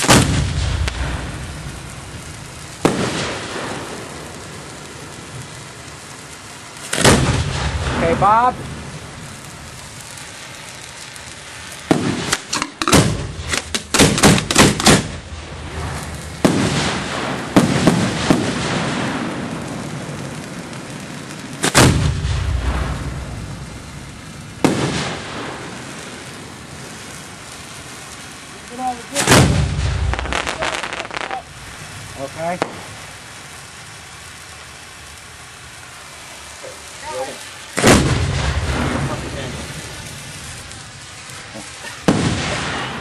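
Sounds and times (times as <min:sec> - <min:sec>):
fireworks bangs: 0:00.0 - 0:43.0
loud firework reports rumbling: 0:00.0 - 0:43.0.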